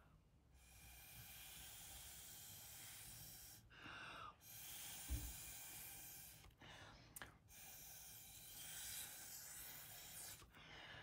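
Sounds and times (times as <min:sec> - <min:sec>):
breath blown through straw: 0:00.6 - 0:06.5, 0:07.5 - 0:10.6.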